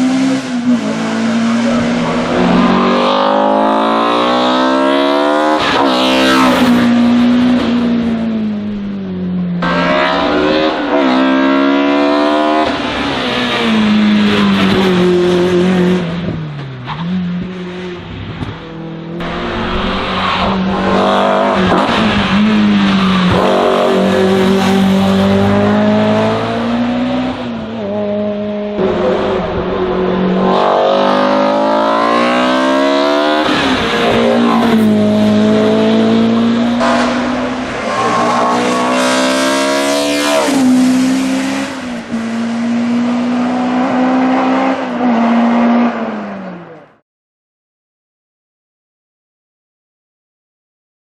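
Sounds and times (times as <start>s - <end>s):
race car engine at full throttle: 0.0s - 47.0s.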